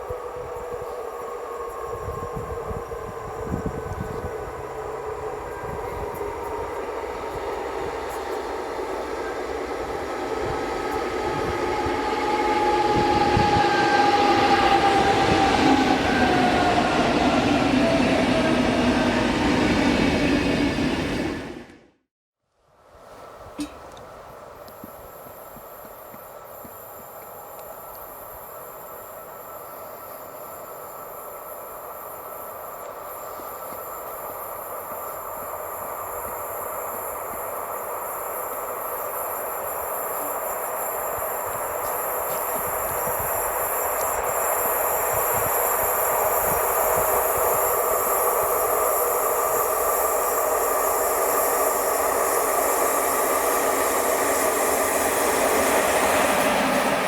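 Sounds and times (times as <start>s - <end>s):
train approaching: 0.0s - 22.1s, 22.7s - 57.0s.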